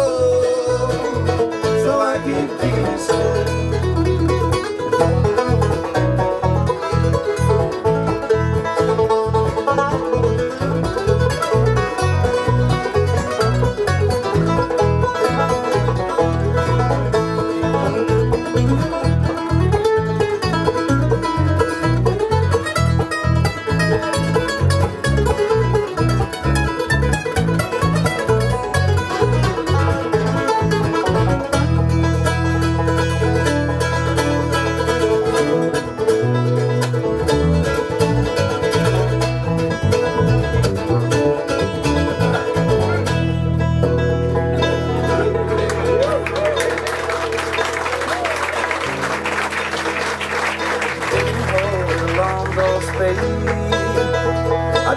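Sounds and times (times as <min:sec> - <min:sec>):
banjo: 0:00.0 - 0:54.9
guitar picking: 0:00.0 - 0:54.9
mandolin: 0:00.0 - 0:54.9
steady bass line: 0:00.0 - 0:54.9.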